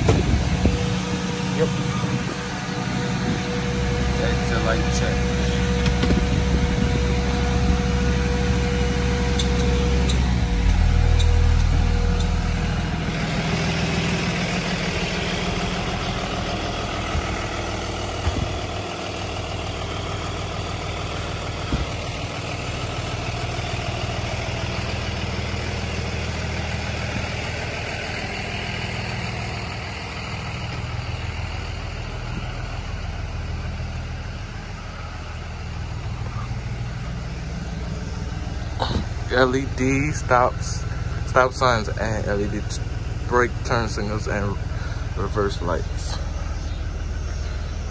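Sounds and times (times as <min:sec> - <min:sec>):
bus engine idling: 0:00.0 - 0:47.9.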